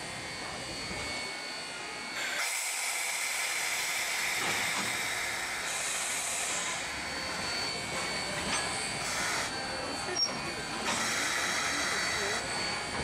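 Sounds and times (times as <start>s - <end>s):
steam locomotive hiss: 0.0s - 13.0s.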